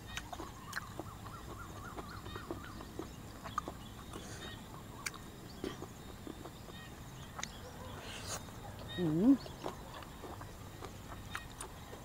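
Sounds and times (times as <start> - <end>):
crunching of raw vegetables: 0.0 - 7.6, 8.2 - 12.0
frogs chirping: 0.0 - 12.0.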